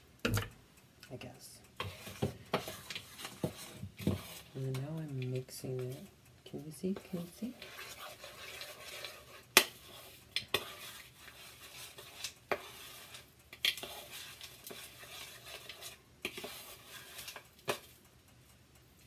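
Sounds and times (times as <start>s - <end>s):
spoon scraping dough in bowl: 1.8s - 6.1s, 6.9s - 18.0s.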